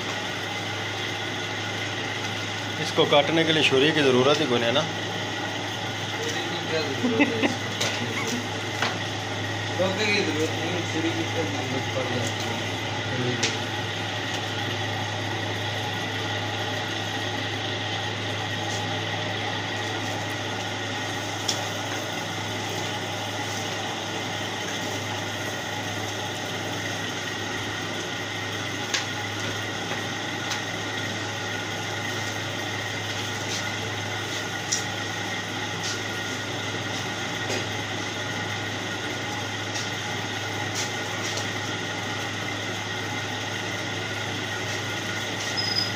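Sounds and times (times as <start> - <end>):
machine motor humming: 0.0 - 45.9.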